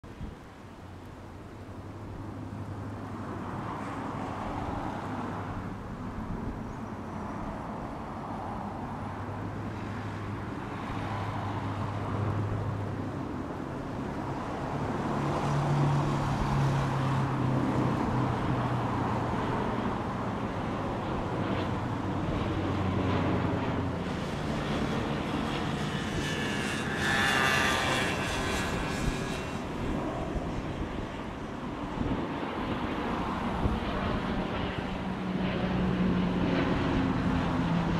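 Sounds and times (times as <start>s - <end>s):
turboprop plane flying overhead: 0.0s - 37.9s.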